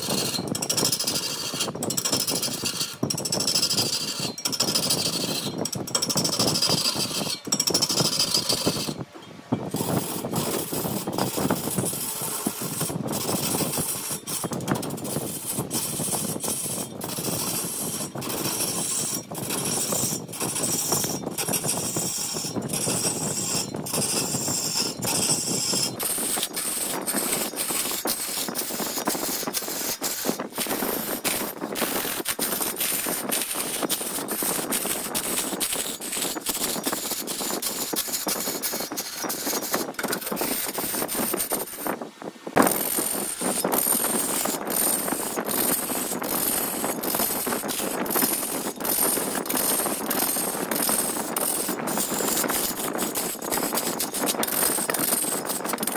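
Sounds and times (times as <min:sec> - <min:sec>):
tool scraping spinning wood: 0:00.0 - 0:55.9
wood lathe running: 0:09.8 - 0:41.9, 0:42.6 - 0:55.9.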